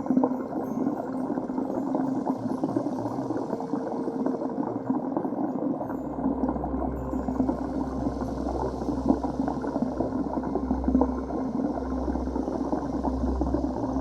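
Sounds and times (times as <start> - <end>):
underwater gurgling and churning: 0.0 - 14.0.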